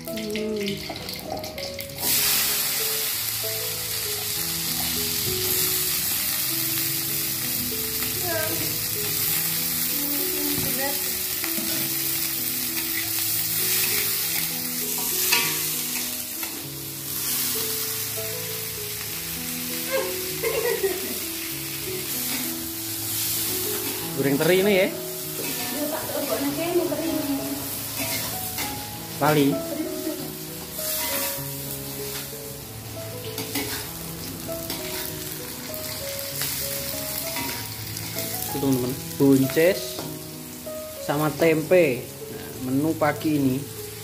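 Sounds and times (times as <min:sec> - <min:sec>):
green beans sizzling in hot oil: 0:00.0 - 0:44.0.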